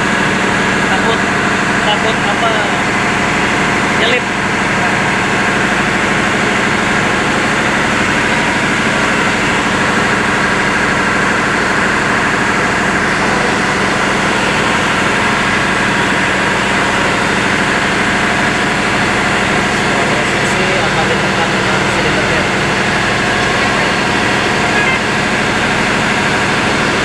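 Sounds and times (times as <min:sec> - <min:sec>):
engine droning steadily: 0:00.0 - 0:27.0.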